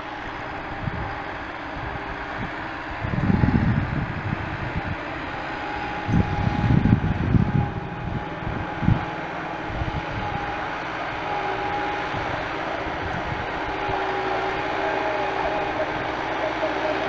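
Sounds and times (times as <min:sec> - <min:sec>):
diesel tractor running: 0:00.0 - 0:17.0
wind buffeting microphone: 0:00.3 - 0:16.7.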